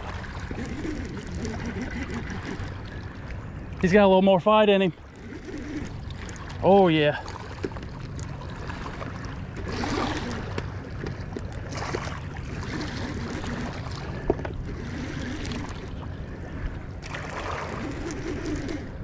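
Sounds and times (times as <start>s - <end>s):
river water along rocky bank: 0.0s - 19.0s
wind: 0.0s - 19.0s.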